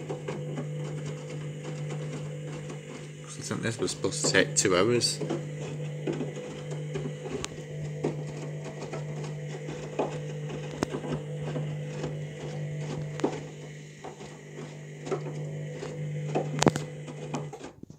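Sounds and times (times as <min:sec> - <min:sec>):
washing machine motor hum: 0:00.0 - 0:17.9.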